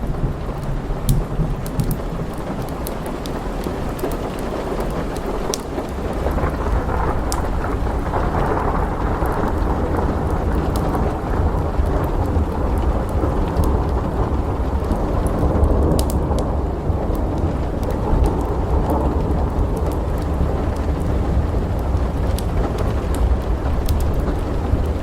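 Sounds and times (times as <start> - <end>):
rolling thunder rumble: 0.0 - 25.0
steady rain: 0.0 - 25.0
fireplace crackling: 0.5 - 25.0.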